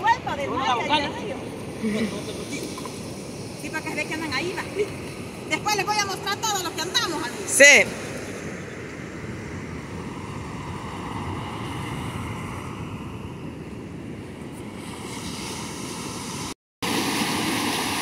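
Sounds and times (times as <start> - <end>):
wind buffeting microphone: 0.0 - 16.5
ocean surf on beach: 0.0 - 18.0.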